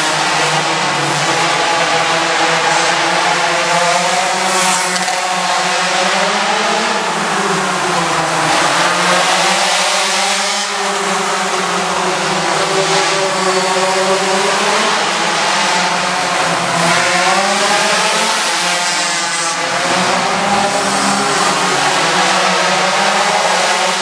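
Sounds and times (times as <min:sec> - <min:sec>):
pocket bike engines racing: 0:00.4 - 0:24.0.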